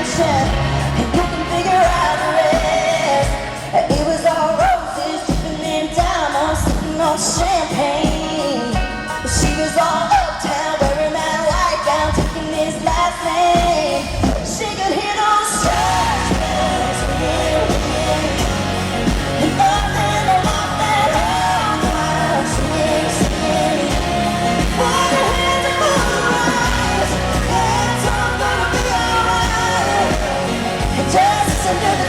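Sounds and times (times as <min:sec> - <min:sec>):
bass and drums: 0:00.0 - 0:14.7, 0:15.6 - 0:32.0
full band playing: 0:00.0 - 0:32.0
woman singing: 0:00.0 - 0:32.0.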